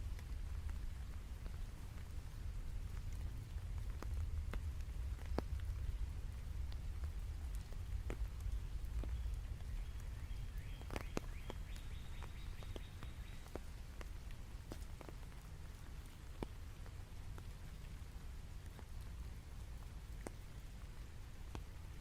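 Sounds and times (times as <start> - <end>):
low steady rumble: 0.0 - 22.0
rain falling: 0.0 - 22.0.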